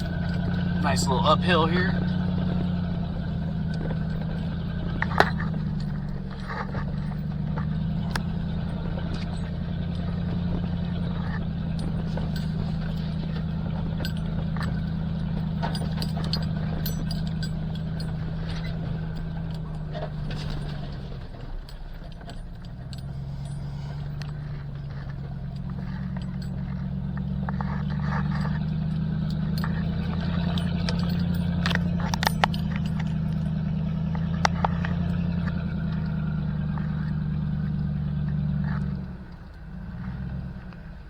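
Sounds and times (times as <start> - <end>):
truck cab rattles and knocks: 0.0 - 39.0
diesel truck engine droning: 0.0 - 41.0.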